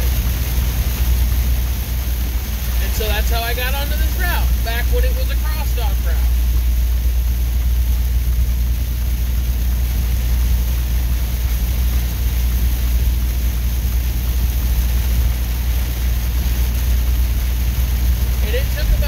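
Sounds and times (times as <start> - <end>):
road noise: 0.0 - 19.0
truck engine drone: 0.0 - 19.0.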